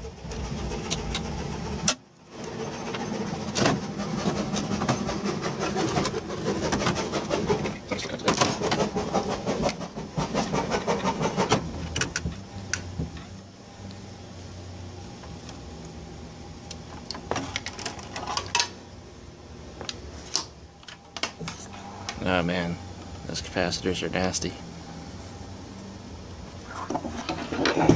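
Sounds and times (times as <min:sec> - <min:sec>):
woodworking machinery noise: 0:00.0 - 0:27.9.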